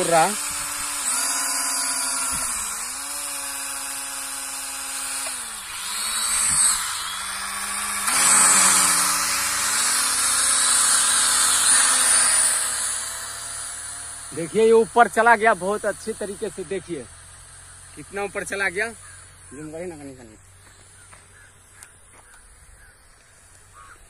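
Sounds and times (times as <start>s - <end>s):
drone motors whirring: 0.0s - 24.0s.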